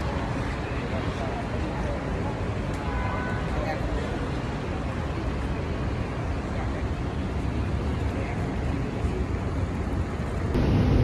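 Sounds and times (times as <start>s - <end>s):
low rumbling street noise: 0.0s - 11.0s.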